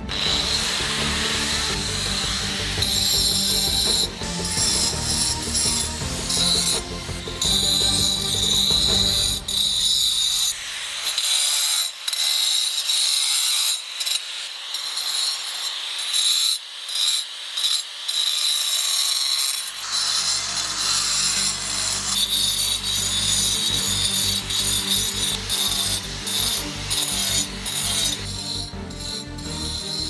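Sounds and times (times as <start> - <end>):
angle grinder grinding stone: 0.0 - 30.0.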